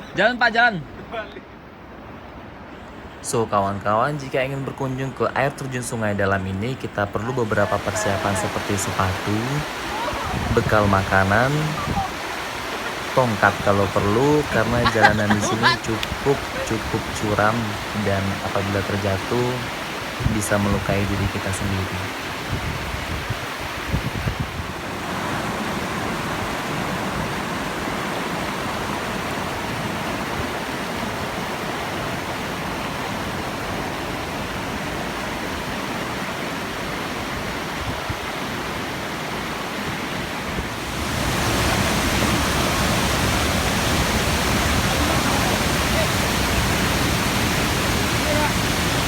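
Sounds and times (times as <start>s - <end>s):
waterfall and river rushing: 0.0s - 49.0s.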